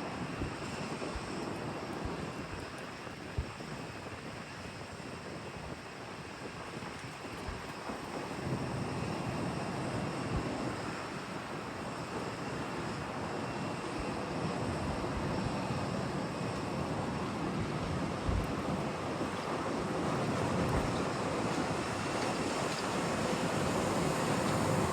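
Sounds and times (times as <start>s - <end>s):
jet airliner engine noise: 0.0s - 24.9s
wind buffeting microphone: 0.0s - 24.9s.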